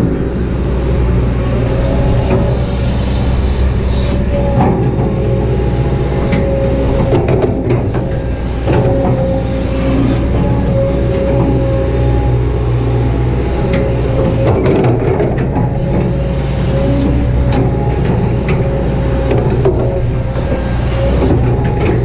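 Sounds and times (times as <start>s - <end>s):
excavator diesel rumble: 0.0s - 22.0s
hydraulic whine: 0.0s - 22.0s.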